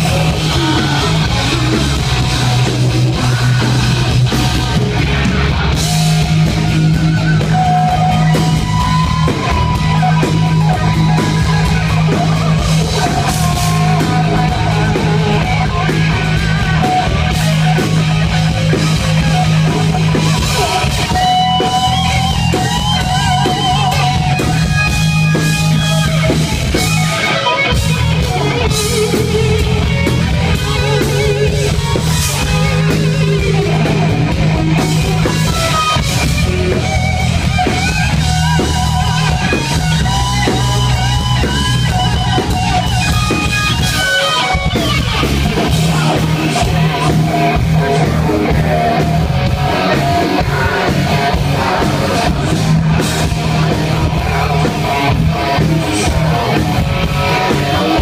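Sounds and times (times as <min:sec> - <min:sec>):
electric guitar lead with vibrato: 0:00.0 - 0:58.0
live heavy metal band: 0:00.0 - 0:58.0.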